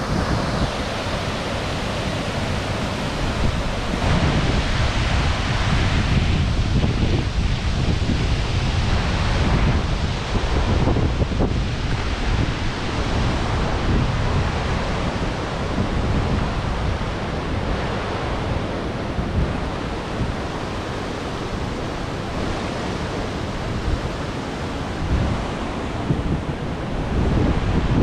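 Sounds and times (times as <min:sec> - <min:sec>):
waterfall and river rushing: 0:00.0 - 0:28.0
wind buffeting microphone: 0:00.0 - 0:28.0.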